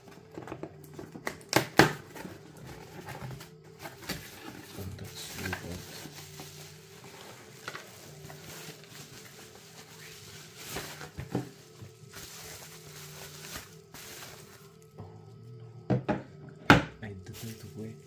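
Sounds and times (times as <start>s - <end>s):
bubble wrap crinkling: 0.0s - 15.0s, 17.3s - 18.0s.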